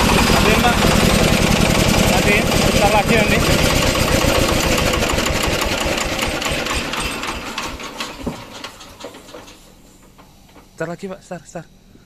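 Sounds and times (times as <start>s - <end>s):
diesel engine winding down: 0.0s - 10.8s.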